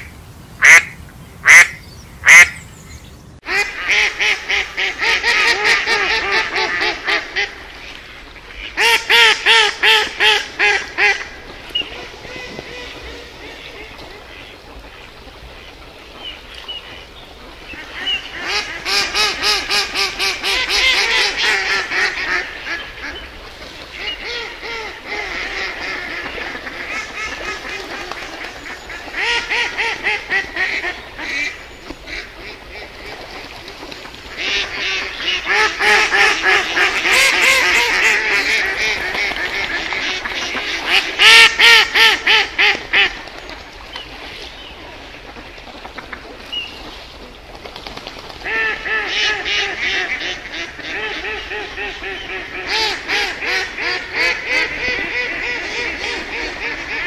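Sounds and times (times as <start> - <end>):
ducks quacking: 0.0 - 2.7, 3.4 - 43.6, 48.4 - 57.0.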